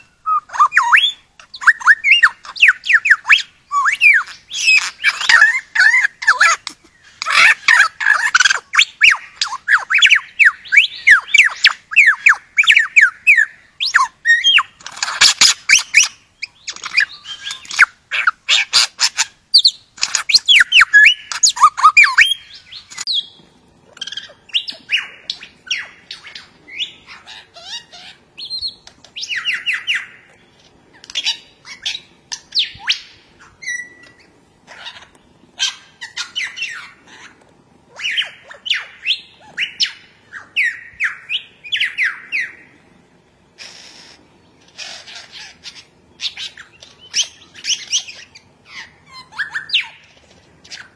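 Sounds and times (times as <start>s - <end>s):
lyrebird singing: 0.0s - 50.9s.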